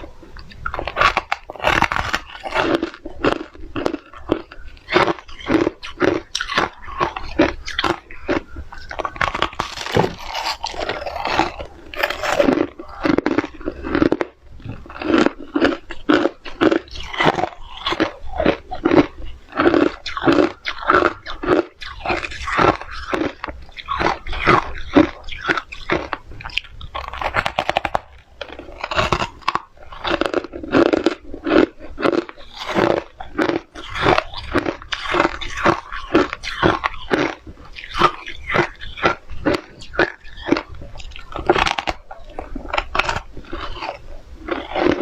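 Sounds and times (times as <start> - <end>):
mouth crunching ice: 0.0 - 45.0.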